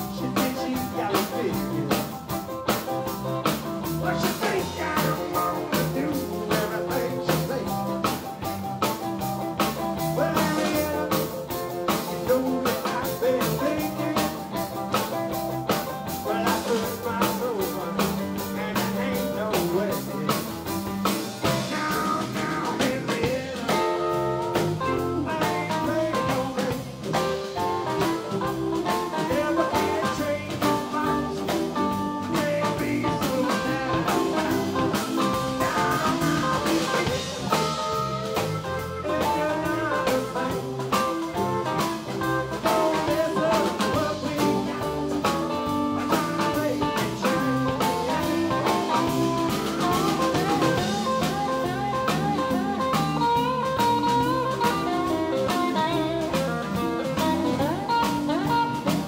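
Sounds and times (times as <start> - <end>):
live blues band playing: 0.0 - 59.0.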